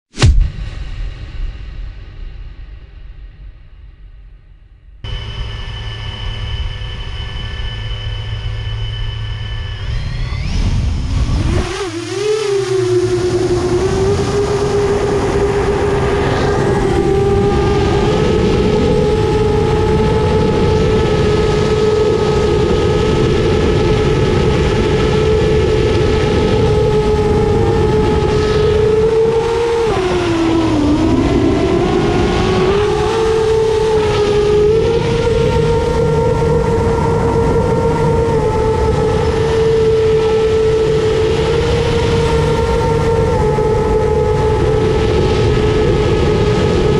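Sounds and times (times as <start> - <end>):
drone motors whining: 5.0 - 46.9.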